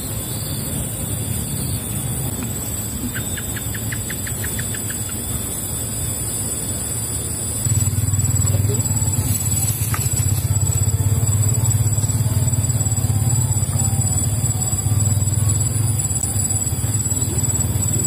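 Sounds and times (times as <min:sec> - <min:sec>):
engine drone with flutter: 0:00.0 - 0:18.0.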